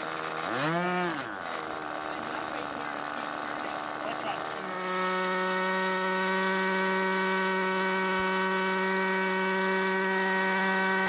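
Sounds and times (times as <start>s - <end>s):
steady buzzing hum: 0.0s - 11.0s.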